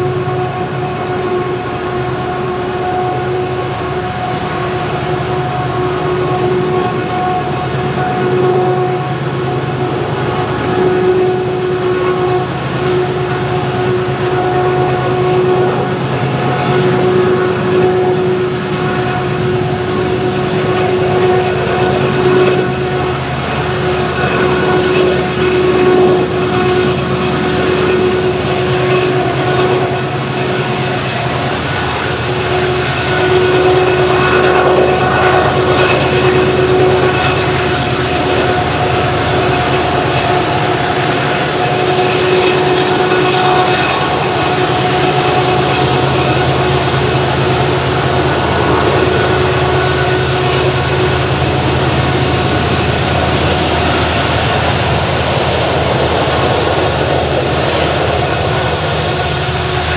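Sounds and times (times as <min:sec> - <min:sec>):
diesel locomotive engine drone: 0:00.0 - 0:59.9
steady whine: 0:00.0 - 0:59.9.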